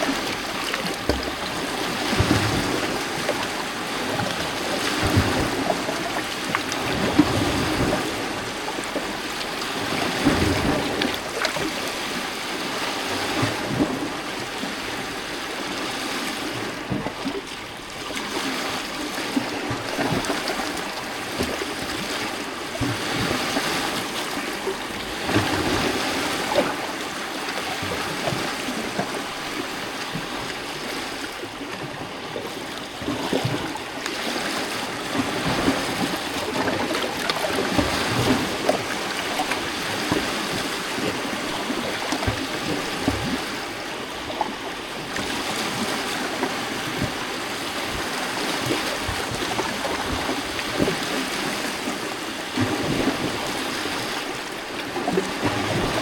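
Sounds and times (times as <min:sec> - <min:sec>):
waves lapping on rocky shore: 0:00.0 - 0:56.0.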